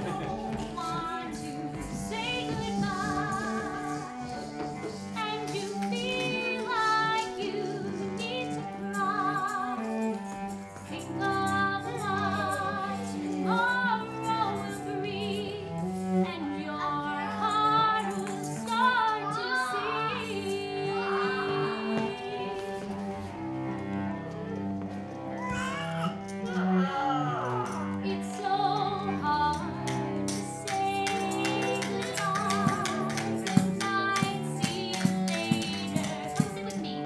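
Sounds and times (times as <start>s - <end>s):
woman singing with vibrato: 0.0s - 10.1s, 10.9s - 22.8s, 28.0s - 37.0s
cello bowed notes: 0.0s - 37.0s.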